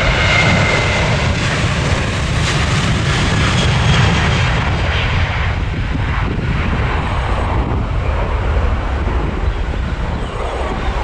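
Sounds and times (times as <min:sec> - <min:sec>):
jet engine roar: 0:00.0 - 0:11.0
wind on microphone: 0:00.0 - 0:11.0.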